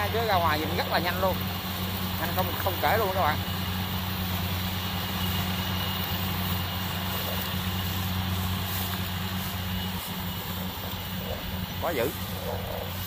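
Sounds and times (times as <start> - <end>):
combine harvester engine droning: 0.0 - 13.0.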